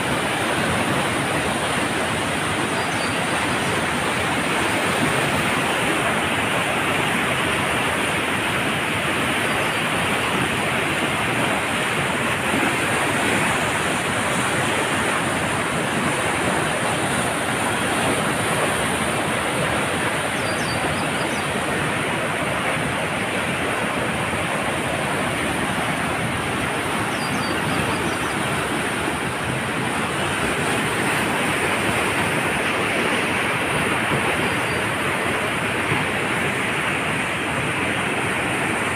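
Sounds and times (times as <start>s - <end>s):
river rushing in flood: 0.0s - 38.9s.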